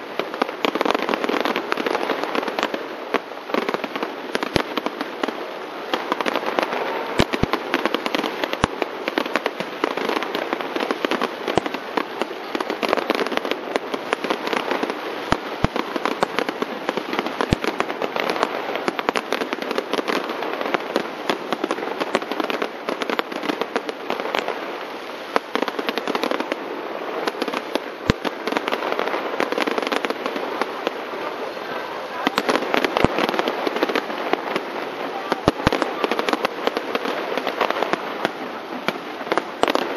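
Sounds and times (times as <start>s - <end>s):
fireworks crackling: 0.0s - 39.9s
loud firework bangs: 0.0s - 39.9s.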